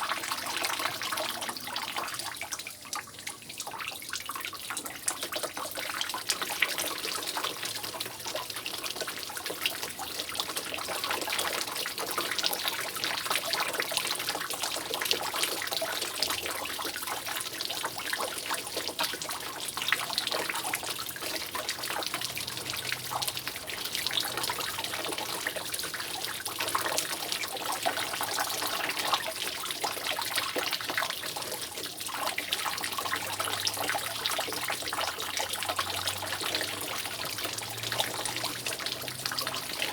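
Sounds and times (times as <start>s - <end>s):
water dripping from roof: 0.0s - 39.9s.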